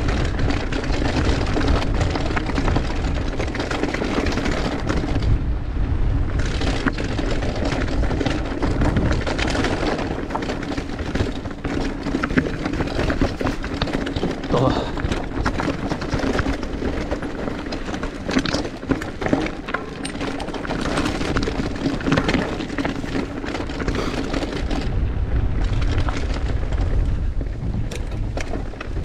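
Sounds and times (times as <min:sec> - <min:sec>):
bike tyres clattering on rocky trail: 0:00.0 - 0:29.0
wind rumble on microphone: 0:00.0 - 0:29.0.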